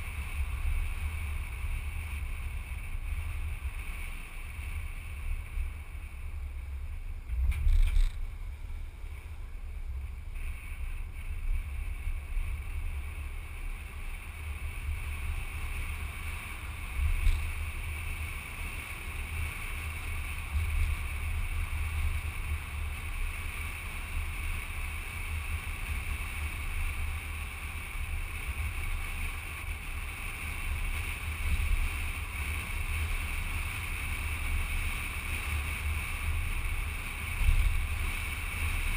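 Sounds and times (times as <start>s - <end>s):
road and engine noise: 0.0s - 38.9s.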